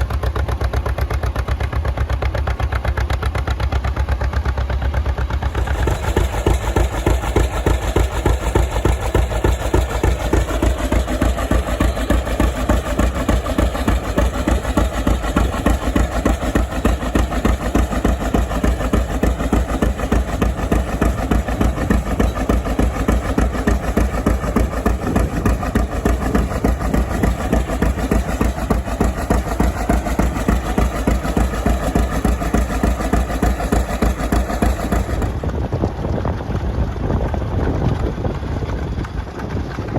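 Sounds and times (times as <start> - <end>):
tractor engine popping: 0.0 - 39.9.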